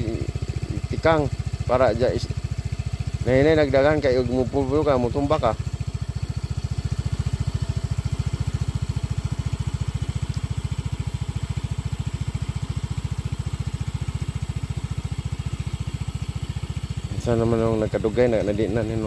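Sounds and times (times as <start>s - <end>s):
scooter engine idling: 0.0s - 19.0s.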